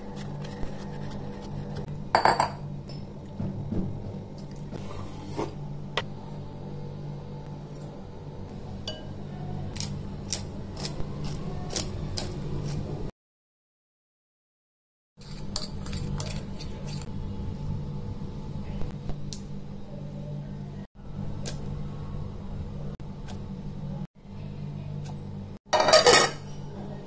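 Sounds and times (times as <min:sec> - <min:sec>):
steady low hum: 0:00.0 - 0:13.1, 0:15.2 - 0:25.6.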